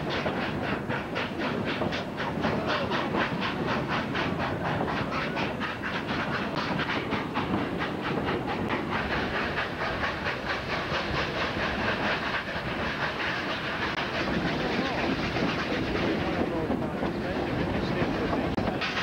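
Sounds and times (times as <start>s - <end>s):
steam locomotive chuffing: 0.0s - 19.0s
wheels rumbling on rails: 0.0s - 19.0s.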